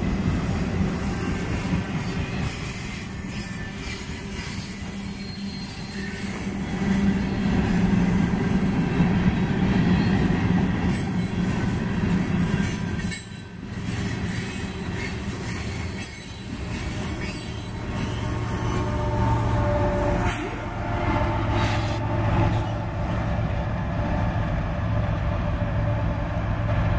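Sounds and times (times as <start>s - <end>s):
freight train wheels rumbling: 0.0s - 26.9s
train wheel squeal: 0.8s - 23.5s.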